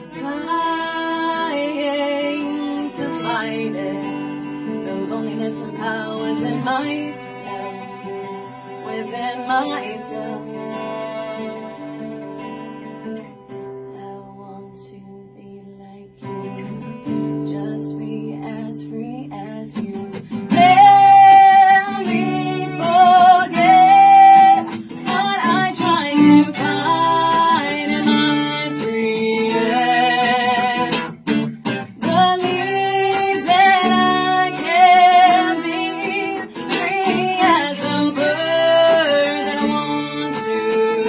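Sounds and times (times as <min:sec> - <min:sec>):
held melody notes with vibrato: 0:00.0 - 0:14.4, 0:20.3 - 0:41.0
acoustic guitar strumming chords: 0:00.0 - 0:14.8, 0:16.2 - 0:41.0.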